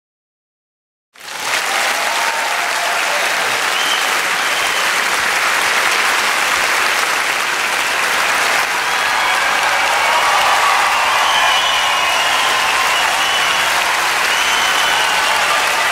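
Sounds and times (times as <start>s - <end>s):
audience applauding: 1.2s - 15.9s.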